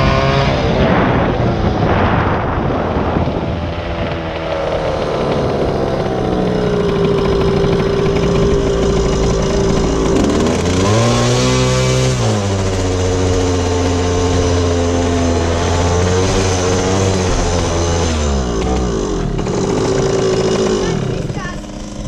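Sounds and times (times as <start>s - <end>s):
engine revving up: 0.0s - 22.0s
small motorbike engine running: 0.0s - 22.0s.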